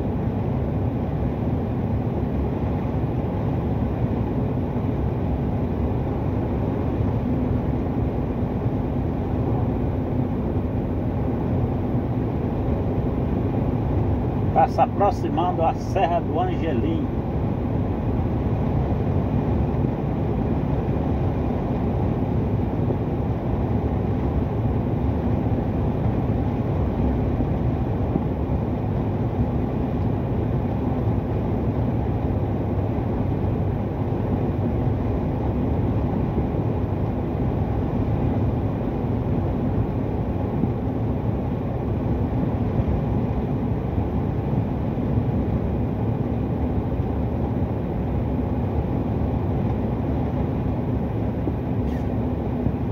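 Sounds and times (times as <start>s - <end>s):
truck engine and tyre drone: 0.0s - 52.9s.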